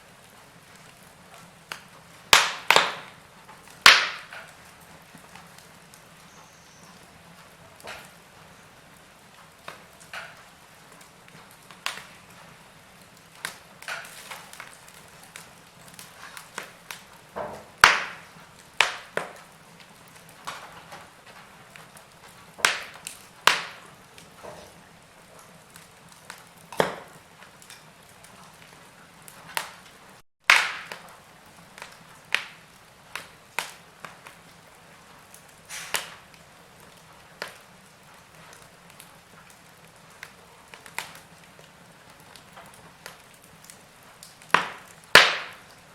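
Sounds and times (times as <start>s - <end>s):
faint steady hiss: 0.0s - 45.9s
wood fire crackling and popping: 0.0s - 45.9s.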